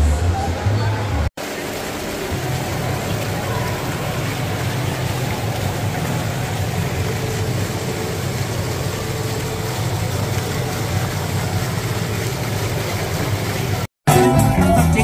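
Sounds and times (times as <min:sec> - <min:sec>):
fountain water splashing: 0:01.0 - 0:13.9.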